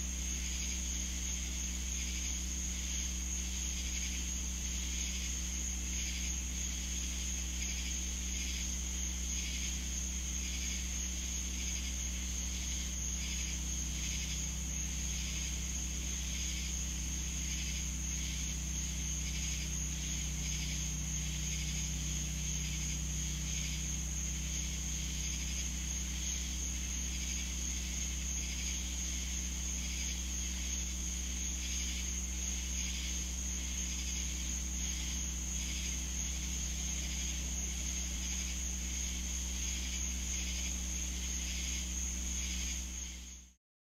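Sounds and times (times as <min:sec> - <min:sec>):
insects trilling: 0:00.0 - 0:43.6
low steady drone: 0:03.6 - 0:43.5.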